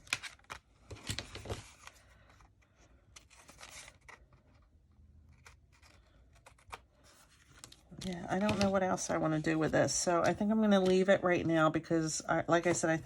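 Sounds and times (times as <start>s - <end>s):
paper rustling and scraping: 0.0s - 11.0s.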